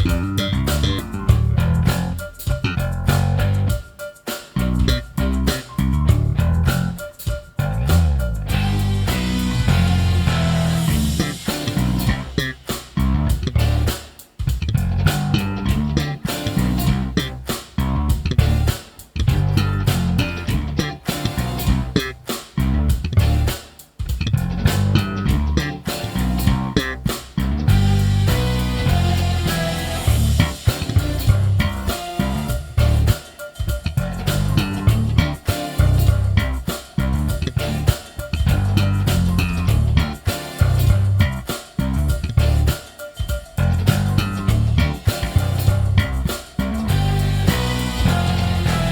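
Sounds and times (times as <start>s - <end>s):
drums: 0.0s - 48.9s
funky electric bass line: 0.0s - 48.9s.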